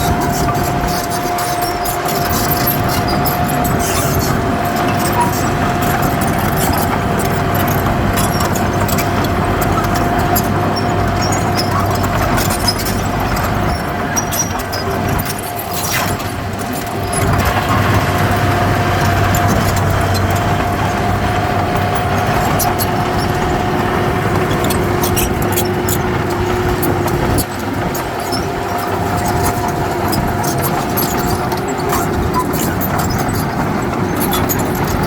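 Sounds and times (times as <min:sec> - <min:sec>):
diesel machinery running: 0:00.0 - 0:35.0
steady machine whine: 0:00.0 - 0:35.0.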